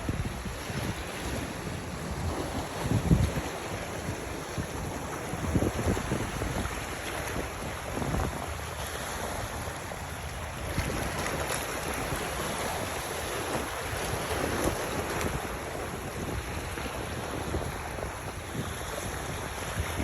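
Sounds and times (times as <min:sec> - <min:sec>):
water and waves: 0:00.0 - 0:20.0
wind buffeting microphone: 0:00.0 - 0:20.0.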